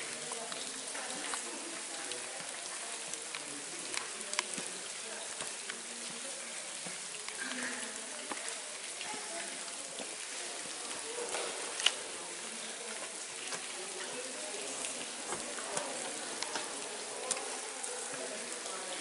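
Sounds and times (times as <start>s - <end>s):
water dripping in a cave: 0.0s - 19.0s.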